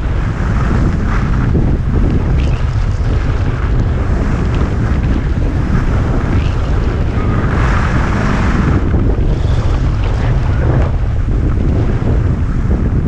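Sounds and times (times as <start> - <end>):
skis sliding on snow: 0.0 - 12.9
wind buffeting microphone: 0.0 - 13.0.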